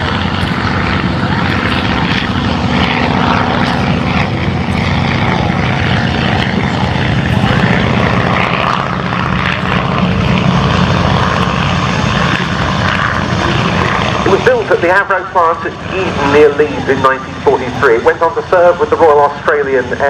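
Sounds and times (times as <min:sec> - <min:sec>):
propeller aircraft engines droning: 0:00.0 - 0:20.0.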